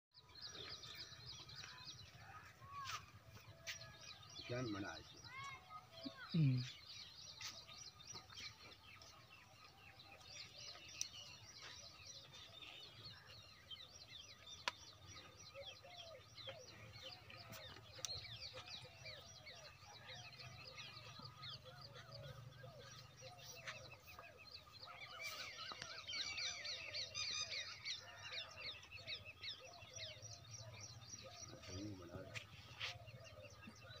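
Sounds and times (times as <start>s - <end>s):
small birds chirping: 0.1s - 34.0s.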